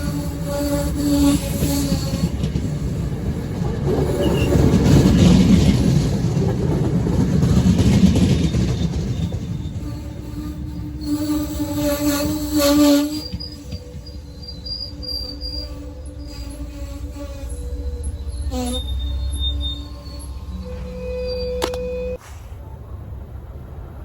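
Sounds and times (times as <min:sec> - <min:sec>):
train wheels squealing: 0:00.0 - 0:22.8
train rumbling on rails: 0:00.0 - 0:24.0.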